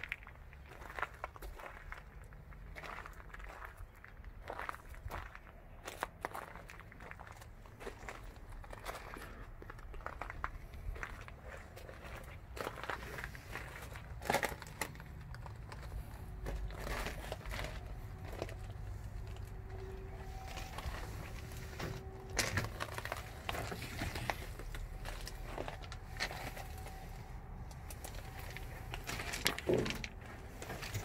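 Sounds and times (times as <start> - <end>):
footsteps crunching on gravel: 0.0 - 31.0
steady low rumble: 0.0 - 31.0.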